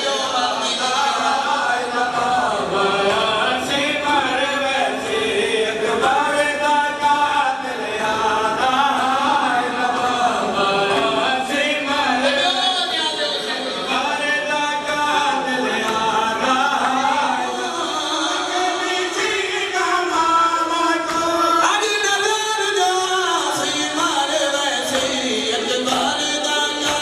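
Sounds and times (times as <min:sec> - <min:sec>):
crowd of men chanting: 0:00.0 - 0:27.0.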